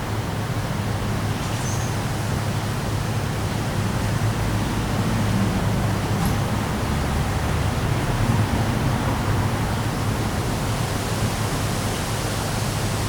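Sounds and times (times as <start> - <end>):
rain: 0.1 - 13.0.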